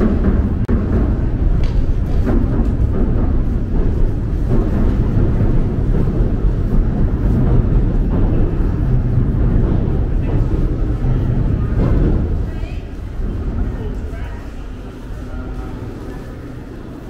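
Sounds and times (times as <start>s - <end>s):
crowd chatter: 0.0s - 17.0s
steady low rumble: 0.0s - 17.0s.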